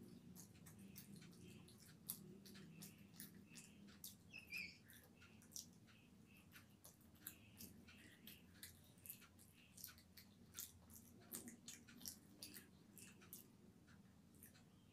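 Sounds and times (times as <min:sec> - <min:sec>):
low steady hum: 0:00.0 - 0:14.9
wet mouth clicks and smacks chewing: 0:00.0 - 0:14.9.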